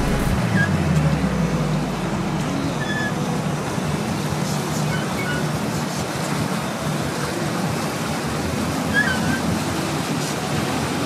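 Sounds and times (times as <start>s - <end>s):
boat engine hum: 0.0s - 11.0s
water and wind rushing: 0.0s - 11.0s.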